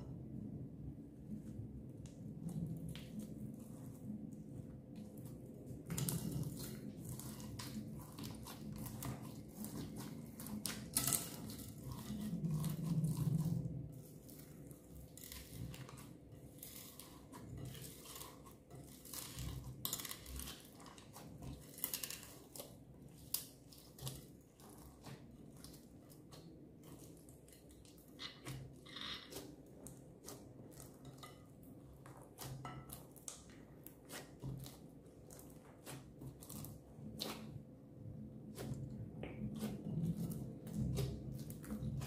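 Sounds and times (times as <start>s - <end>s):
hands squishing slime: 1.4s - 42.0s.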